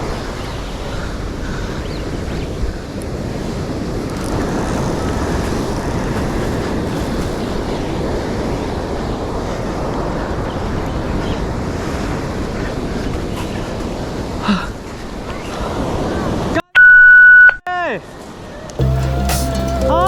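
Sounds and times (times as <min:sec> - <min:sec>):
surf rushing along shore: 0:00.0 - 0:16.6
wind buffeting microphone: 0:00.0 - 0:16.6.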